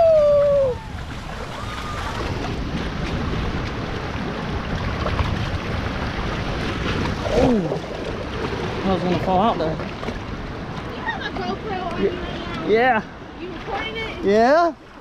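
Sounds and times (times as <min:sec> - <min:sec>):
wind buffeting microphone: 0:00.0 - 0:14.1
rushing splashing water: 0:00.0 - 0:15.0.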